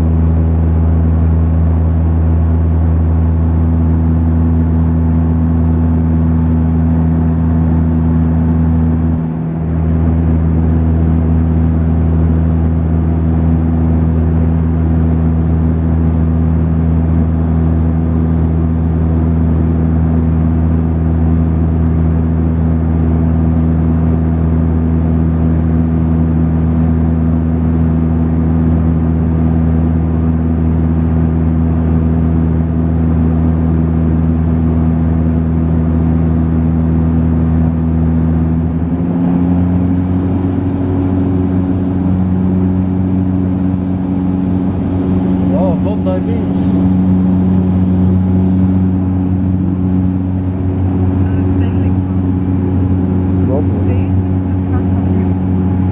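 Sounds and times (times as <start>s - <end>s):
turboprop cabin drone: 0.0s - 55.9s.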